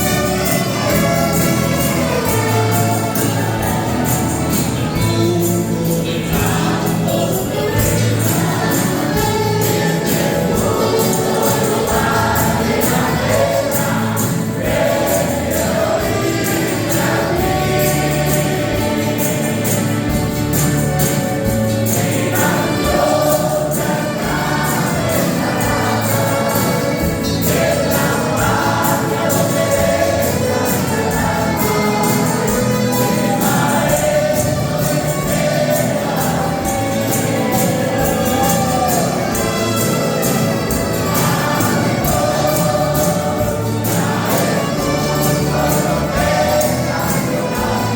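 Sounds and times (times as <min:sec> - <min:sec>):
instrumental accompaniment: 0:00.0 - 0:47.9
men's choir singing a hymn: 0:00.0 - 0:47.9
tambourine jingle: 0:00.0 - 0:47.9.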